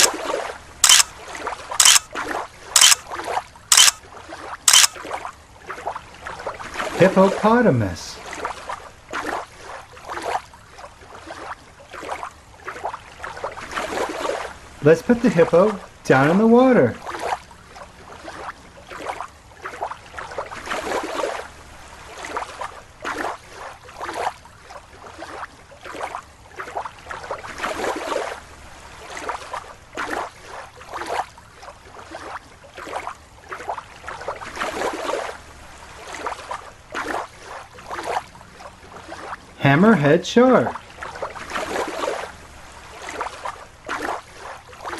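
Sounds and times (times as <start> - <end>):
water bubbling and swishing: 0.0 - 44.9.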